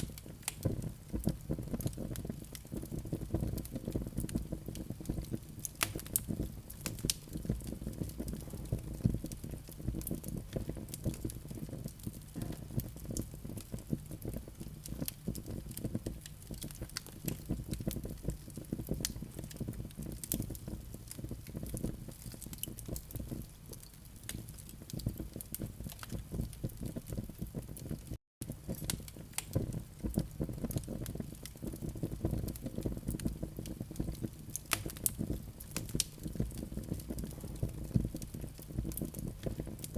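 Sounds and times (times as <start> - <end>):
coals crackling and popping: 0.0 - 39.9
low rumble of fire: 0.0 - 39.9.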